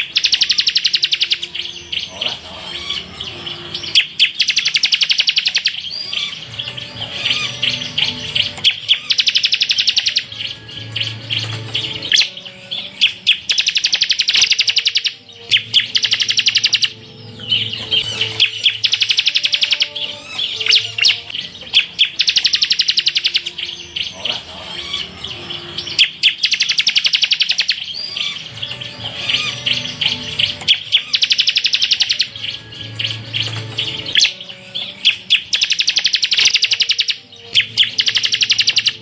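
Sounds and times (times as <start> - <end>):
bird buzzing trills: 0.0 - 39.0
bird chirped notes: 0.0 - 39.0.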